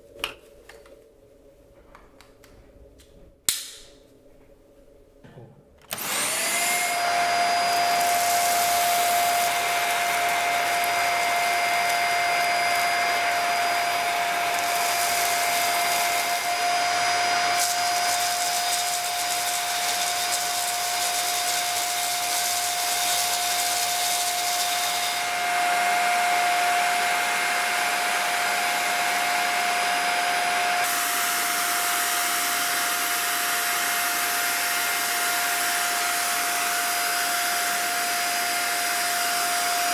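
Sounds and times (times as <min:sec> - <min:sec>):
vacuum cleaner running: 0:05.8 - 0:39.9.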